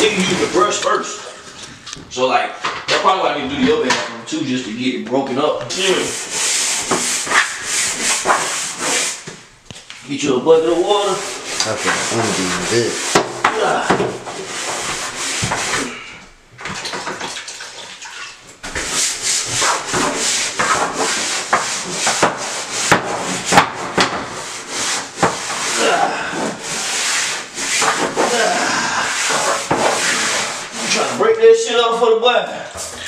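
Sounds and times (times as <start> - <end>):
brush scrubbing a bathtub: 0.0 - 33.0.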